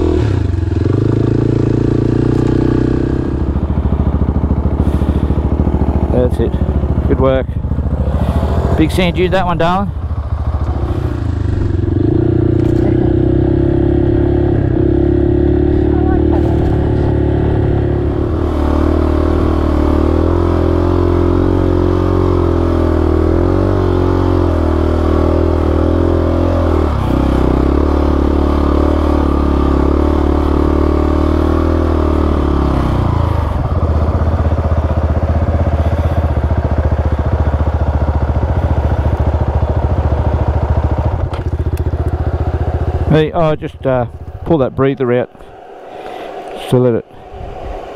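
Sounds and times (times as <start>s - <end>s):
motorcycle engine under throttle: 0.0s - 47.9s.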